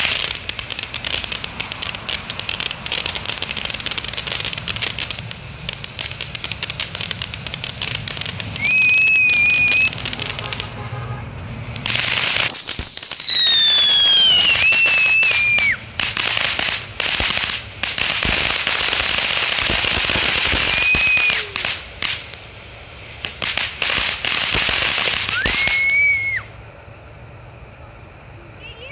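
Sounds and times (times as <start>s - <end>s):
spraying hiss: 0.0s - 26.7s
firework fountain crackling: 0.0s - 28.9s
firework whistles: 0.0s - 28.9s.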